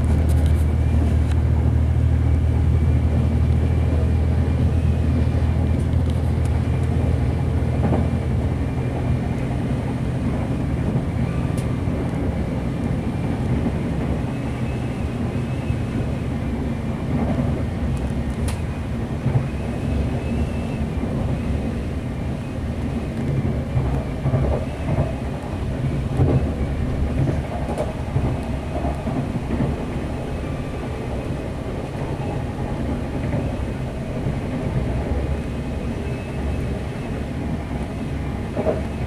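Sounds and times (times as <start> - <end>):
diesel engine rumble: 0.0 - 39.0
wheels on rail: 0.0 - 39.0.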